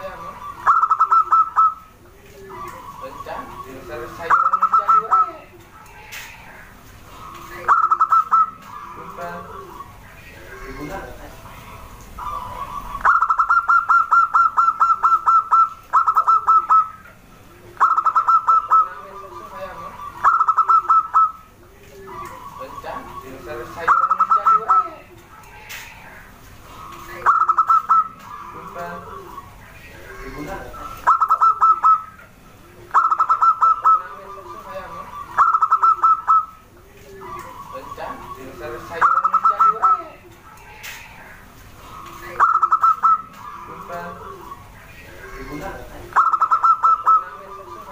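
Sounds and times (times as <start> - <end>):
doves calling with repeated notes: 0.0 - 47.9
faint low arched bird notes: 0.0 - 47.9.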